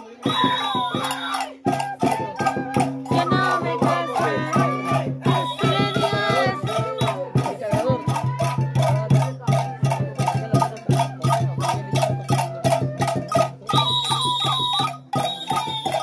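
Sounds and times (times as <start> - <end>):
drum and rattle beat: 0.0 - 16.0
high melody: 0.2 - 16.0.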